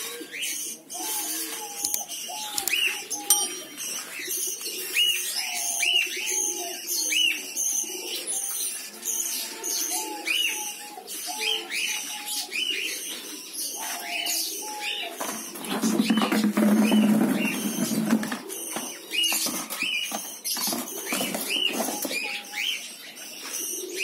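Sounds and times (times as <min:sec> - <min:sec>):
birds chirping: 0:00.0 - 0:24.0
doves cooing: 0:00.0 - 0:24.0.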